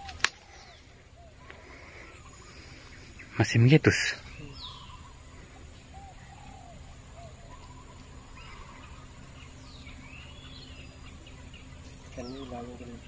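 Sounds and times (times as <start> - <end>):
bird calls and whistles: 0.0 - 13.0
outdoor background hiss: 0.0 - 13.0.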